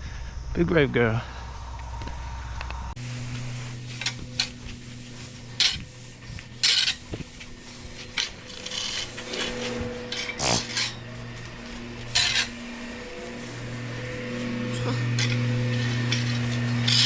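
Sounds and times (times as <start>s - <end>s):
low hum: 0.0s - 17.0s
tool scraping through bedding: 3.0s - 17.0s.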